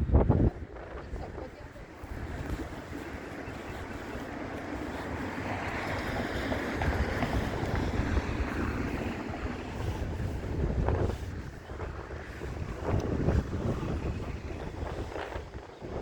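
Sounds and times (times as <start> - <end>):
traffic noise: 0.0 - 16.0
wind on microphone: 0.0 - 16.0
vehicle passing: 0.7 - 15.5.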